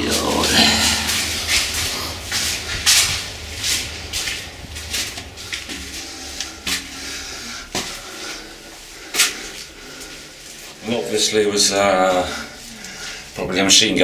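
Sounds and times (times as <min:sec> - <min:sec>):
low steady rumble: 0:00.0 - 0:13.8.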